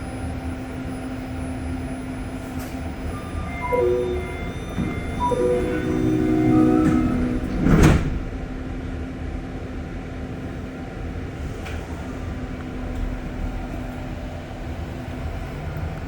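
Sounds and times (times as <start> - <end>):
train car rumble: 2.1 - 15.6.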